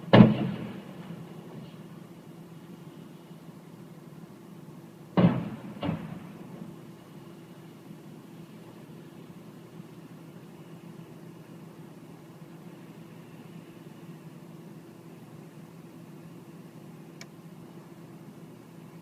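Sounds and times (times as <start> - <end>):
faint hiss: 0.0 - 19.0
steady low hum: 0.0 - 19.0.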